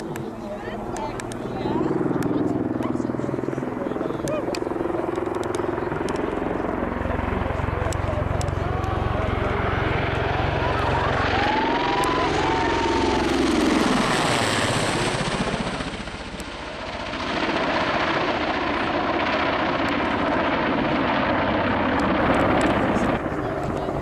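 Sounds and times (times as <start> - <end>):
helicopter rotor and turbines: 0.0 - 24.0.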